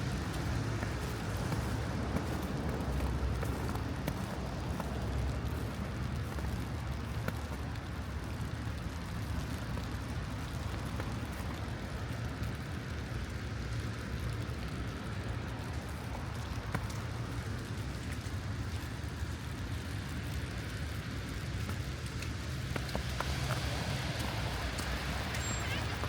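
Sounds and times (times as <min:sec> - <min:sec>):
light rain hiss: 0:00.0 - 0:26.0.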